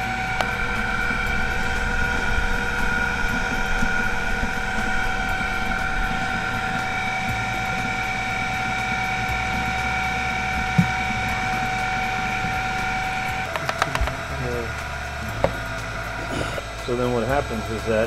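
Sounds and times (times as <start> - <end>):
motor and gearbox whine: 0.0 - 18.0.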